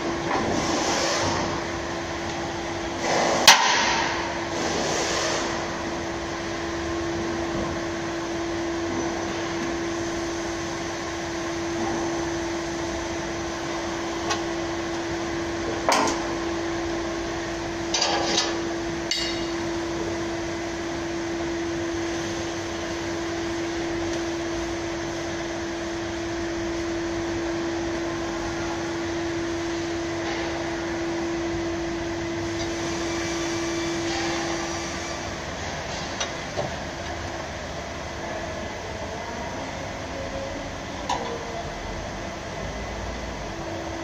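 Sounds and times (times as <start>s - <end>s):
machine hum with constant tone: 0.0s - 44.0s.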